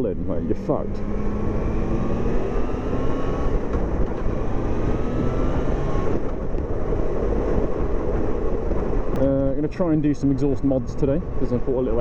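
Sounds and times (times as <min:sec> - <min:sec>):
wind rumble on microphone: 0:01.0 - 0:12.0.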